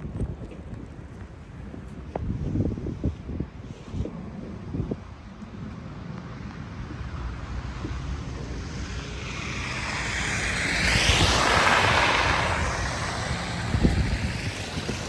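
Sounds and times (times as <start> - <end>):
wind buffeting microphone: 0.0 - 15.0
rushing wind hiss: 1.3 - 15.0.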